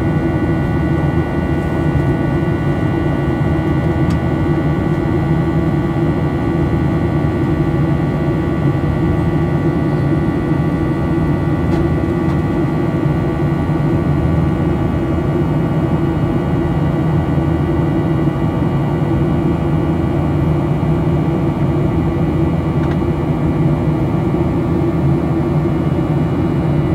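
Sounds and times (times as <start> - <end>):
jet engine drone: 0.0 - 26.9.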